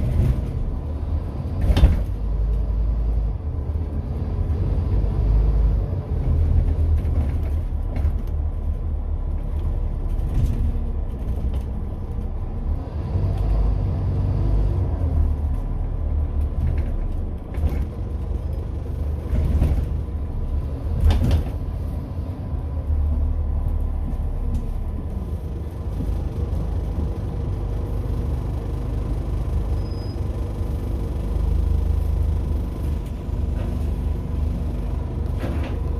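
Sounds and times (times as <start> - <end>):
bus engine and road rumble: 0.0 - 35.9.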